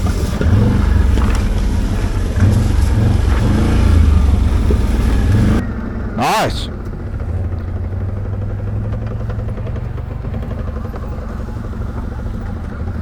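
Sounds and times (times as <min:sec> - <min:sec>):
atv engine running: 0:00.0 - 0:06.0, 0:06.9 - 0:13.0.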